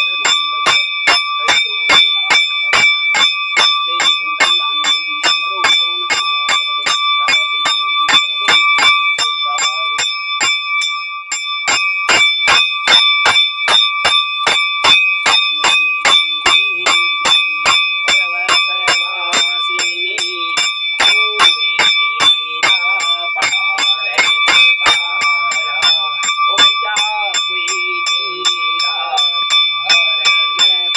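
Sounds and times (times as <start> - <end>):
temple bell ringing: 0.0 - 30.9.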